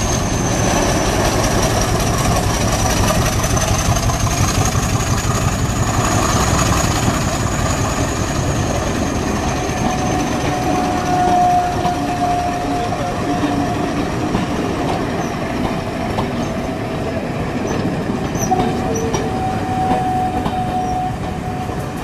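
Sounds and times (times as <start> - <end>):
diesel locomotive engine rumbling: 0.0 - 22.0.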